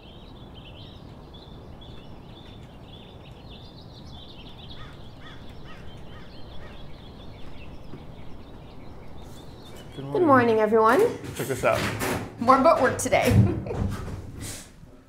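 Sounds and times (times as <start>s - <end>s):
birds chirping and singing: 0.0s - 13.2s.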